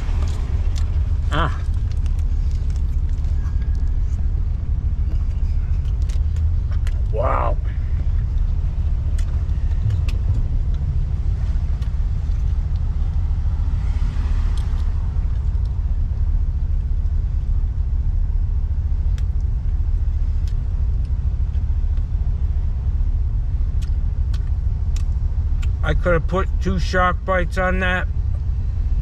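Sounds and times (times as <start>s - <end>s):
vehicle road and engine rumble: 0.0s - 29.0s.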